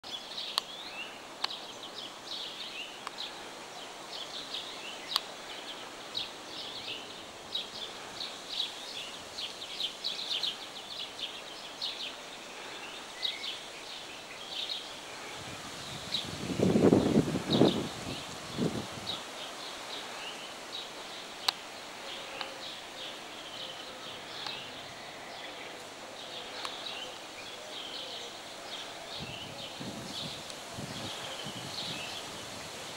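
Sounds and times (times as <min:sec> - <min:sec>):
small birds chirping: 0:00.0 - 0:32.9
steady background hiss: 0:00.0 - 0:32.9.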